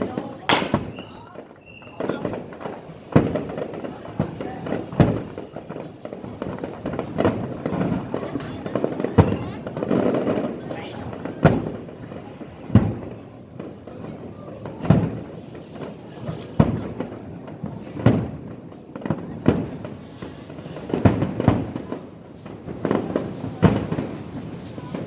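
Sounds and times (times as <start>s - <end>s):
fireworks bangs: 0.0s - 25.0s
fireworks rumble and crackle: 0.0s - 25.0s.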